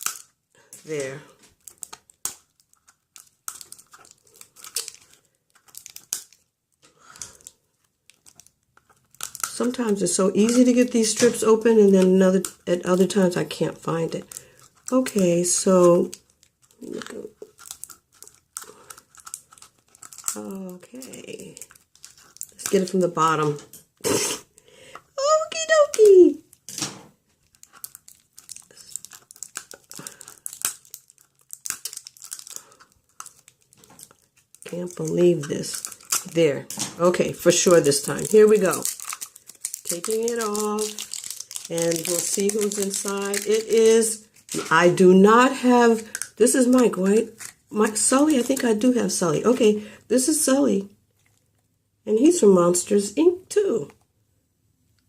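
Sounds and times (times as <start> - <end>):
plastic wrapper crinkling and tearing: 0.0 - 24.0, 25.2 - 49.2, 51.1 - 51.7.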